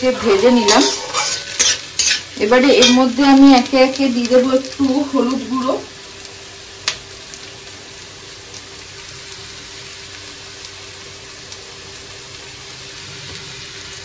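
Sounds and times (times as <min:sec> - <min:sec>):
potato and onion sizzling in oil: 0:00.0 - 0:14.0.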